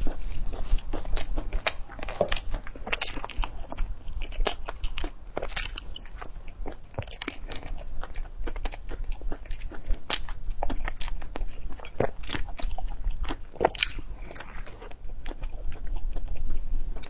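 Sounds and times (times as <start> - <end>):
chewing crisp flatbread: 0.0 - 17.0.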